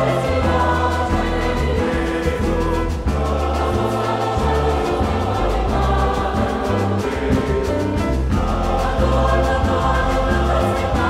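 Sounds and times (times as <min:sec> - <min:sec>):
bass line: 0:00.0 - 0:11.0
mixed choir singing: 0:00.0 - 0:11.0.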